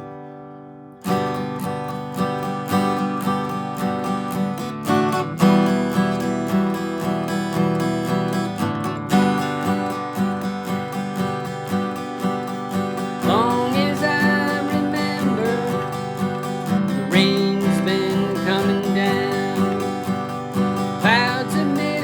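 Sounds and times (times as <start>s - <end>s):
acoustic guitar strumming: 0.0s - 22.0s
sliding guitar melody: 0.0s - 22.0s.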